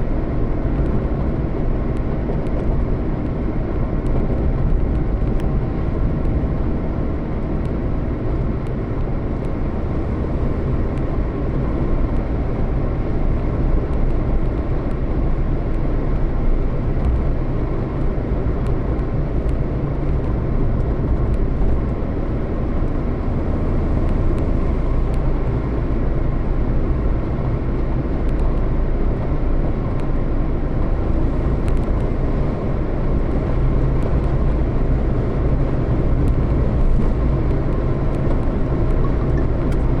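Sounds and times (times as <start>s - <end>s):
vehicle engine and road rumble: 0.0s - 40.0s.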